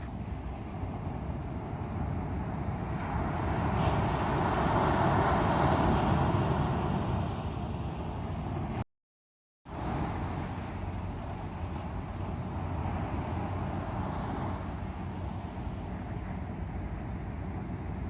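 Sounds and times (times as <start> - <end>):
sea waves breaking on shore: 0.0 - 8.8, 9.7 - 18.0.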